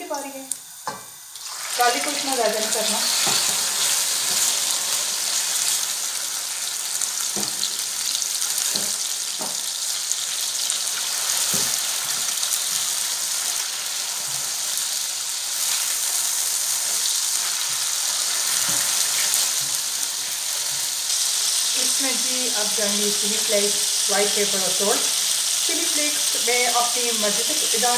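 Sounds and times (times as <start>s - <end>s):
food sizzling in oil: 0.0s - 27.9s.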